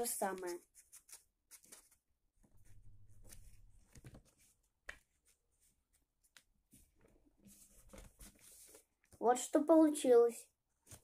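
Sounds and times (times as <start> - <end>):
paper rustling: 0.0 - 8.9, 10.8 - 11.0.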